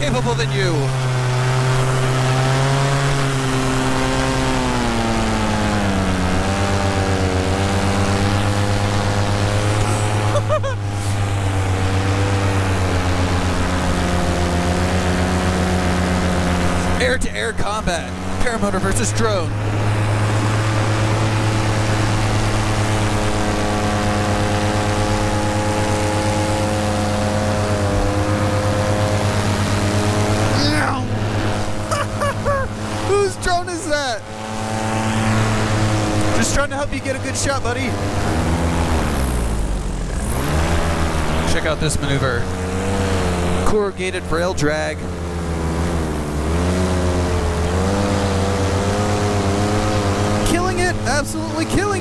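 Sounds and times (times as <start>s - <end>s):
two-stroke engine running: 0.0s - 52.0s.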